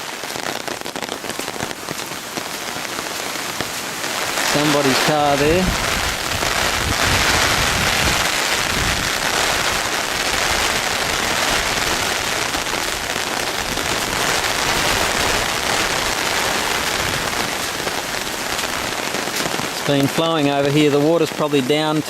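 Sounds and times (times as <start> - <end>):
loud hiss of rushing water: 0.0 - 20.9.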